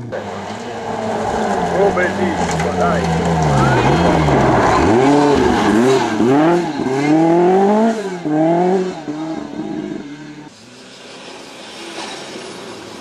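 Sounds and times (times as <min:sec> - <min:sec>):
rally car engine shifting gears: 0:00.0 - 0:13.0.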